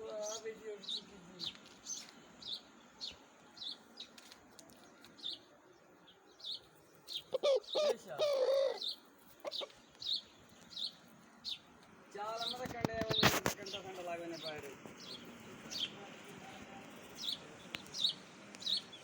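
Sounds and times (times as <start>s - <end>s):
small bird chirping: 0.1s - 19.0s.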